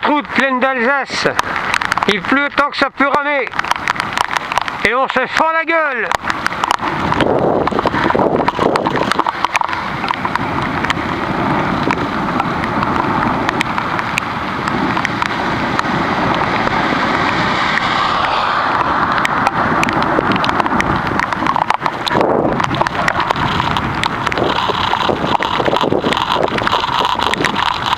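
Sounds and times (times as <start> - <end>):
heavy rain on microphone: 0.0 - 27.9
wind rushing on microphone: 0.0 - 27.9.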